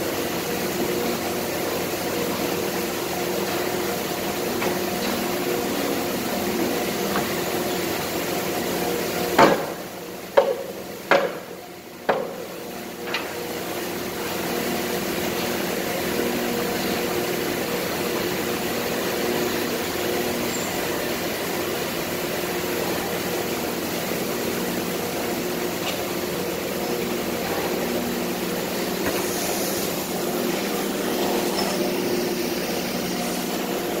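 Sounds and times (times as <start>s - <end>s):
industrial machinery hum: 0.0s - 34.0s.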